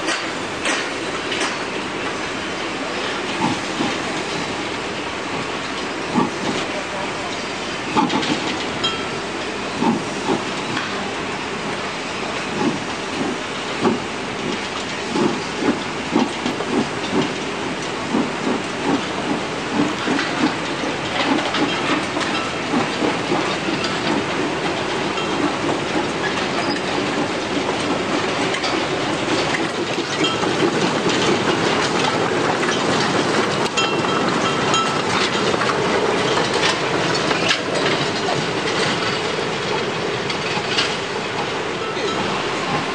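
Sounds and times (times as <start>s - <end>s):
rattling rumble of passing wagons: 0.2s - 42.9s.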